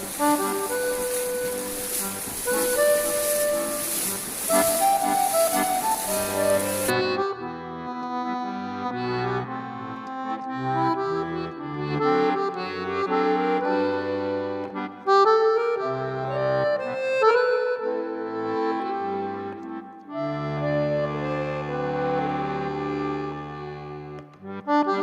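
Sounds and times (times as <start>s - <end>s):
accordion-like instrumental music: 0.0s - 25.0s.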